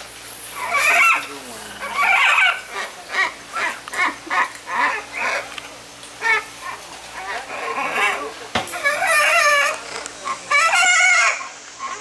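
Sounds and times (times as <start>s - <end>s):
macaws squawking: 0.6s - 5.6s, 6.2s - 12.0s.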